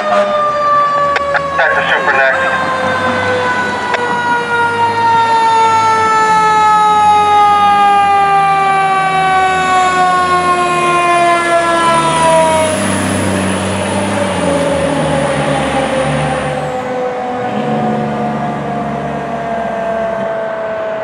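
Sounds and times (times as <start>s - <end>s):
diesel engine: 0.0s - 21.0s
fire truck siren: 0.0s - 21.0s.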